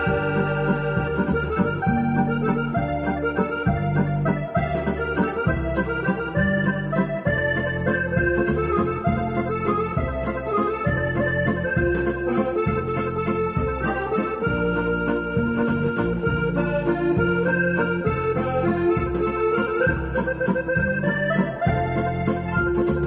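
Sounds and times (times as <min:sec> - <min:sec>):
keyboard playing a waltz: 0:00.0 - 0:23.0.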